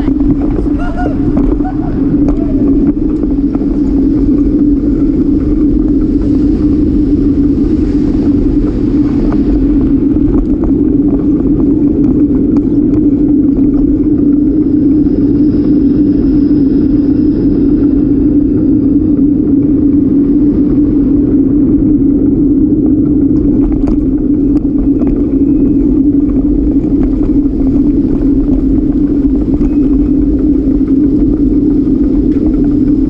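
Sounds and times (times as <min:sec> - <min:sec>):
bicycle rumbling on pavement: 0:00.0 - 0:33.0
bike rattling over bumps: 0:00.0 - 0:33.0
wind on microphone: 0:00.0 - 0:33.0.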